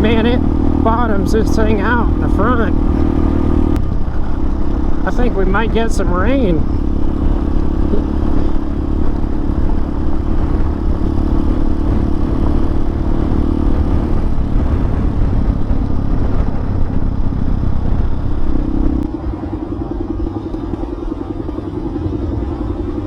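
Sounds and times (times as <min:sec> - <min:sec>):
motorcycle engine running: 0:00.0 - 0:23.0
wind rumble: 0:00.0 - 0:23.0.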